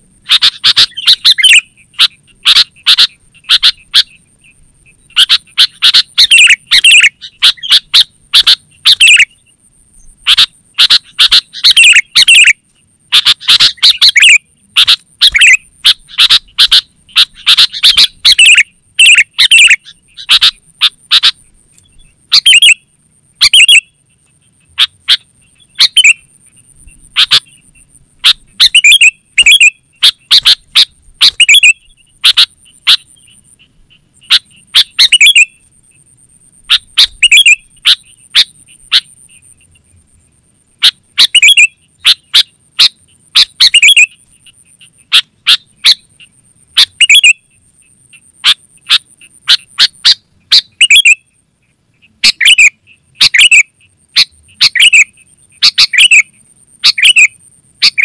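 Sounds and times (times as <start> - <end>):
bird chirping calls: 0.2 - 58.0.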